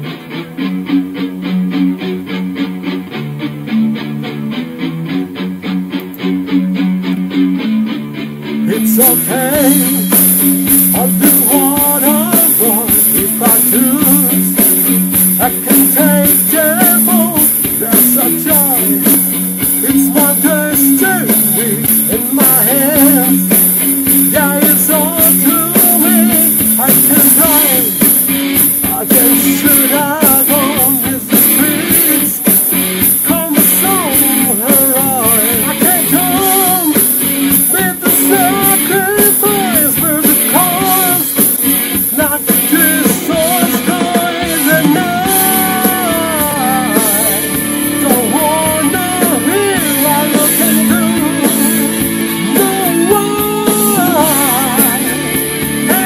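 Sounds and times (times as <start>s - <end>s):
hard rock song: 0.0s - 56.0s
person singing: 8.6s - 56.0s.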